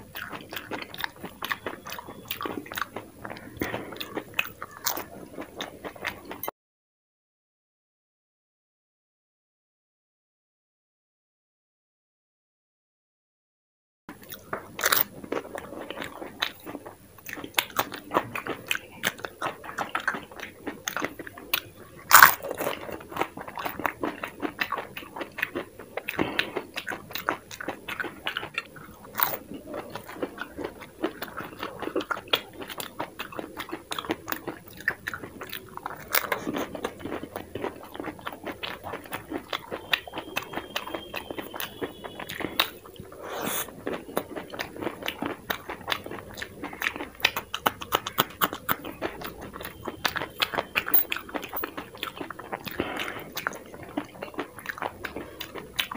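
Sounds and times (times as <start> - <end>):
crunchy food being chewed: 0.0 - 6.5, 14.1 - 55.9.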